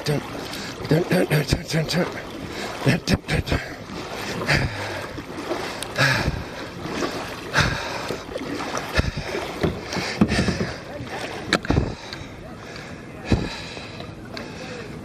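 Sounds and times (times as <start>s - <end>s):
paddle strokes splashing water: 0.0s - 15.0s
water washing against hull: 0.0s - 15.0s.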